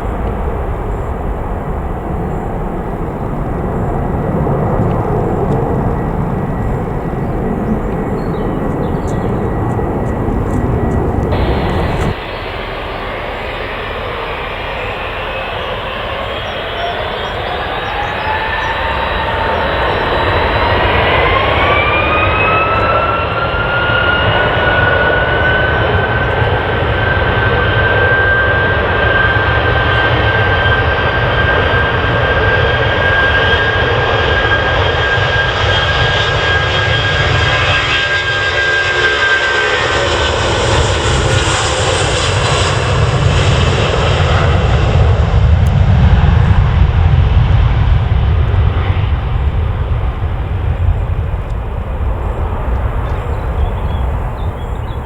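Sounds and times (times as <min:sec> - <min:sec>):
jet engine fan whine: 0:00.0 - 0:55.0
jet engine rumble: 0:00.0 - 0:55.0.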